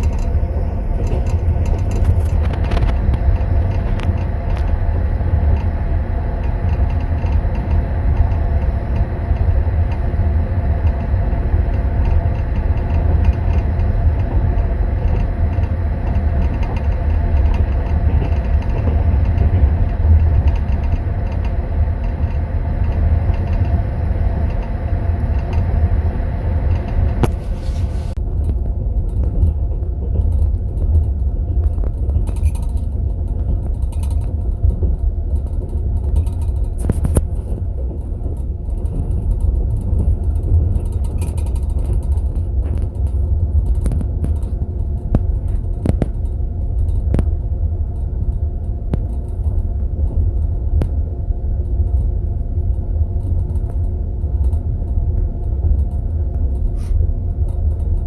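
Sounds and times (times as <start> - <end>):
train carriage rumbling on rails: 0.0 - 58.0.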